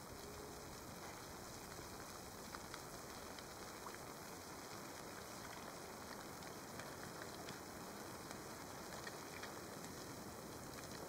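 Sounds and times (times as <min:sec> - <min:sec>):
campfire crackling and hissing: 0:00.0 - 0:11.0.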